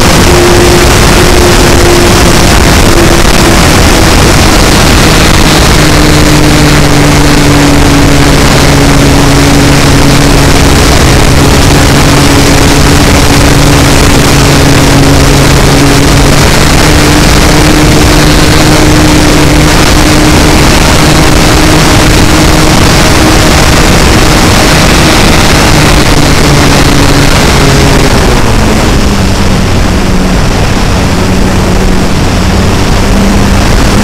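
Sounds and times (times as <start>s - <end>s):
model plane propeller drone: 0.0s - 34.0s
wind rush on microphone: 0.0s - 34.0s.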